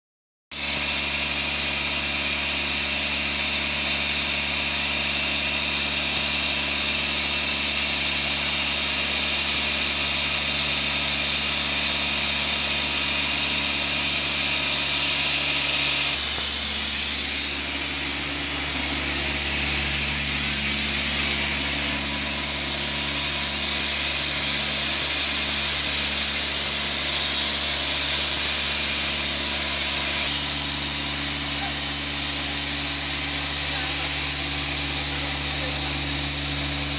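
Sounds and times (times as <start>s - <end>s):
air compressor humming: 0.6s - 36.9s
compressed air hissing from hose: 0.6s - 36.9s.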